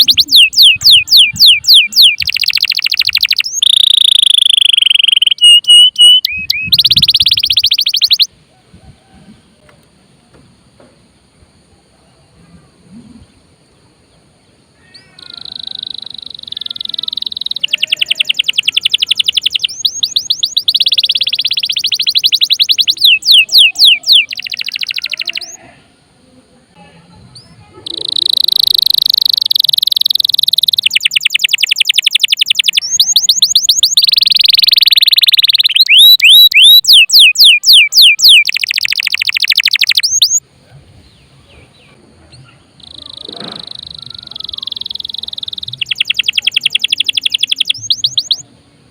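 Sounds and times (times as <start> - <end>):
canary singing trills: 0.0 - 8.3, 14.5 - 25.7, 27.3 - 40.4, 41.2 - 48.5.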